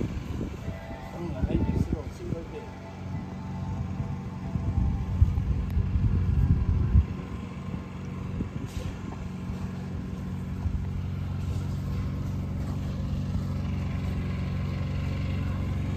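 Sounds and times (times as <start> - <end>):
small tractor engine running: 0.0 - 15.9.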